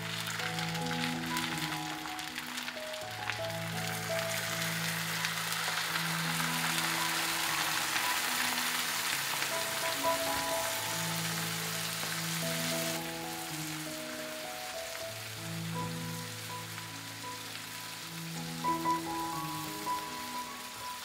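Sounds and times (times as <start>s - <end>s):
hissing sizzle: 0.0s - 21.0s
water poured into pan: 0.0s - 21.0s.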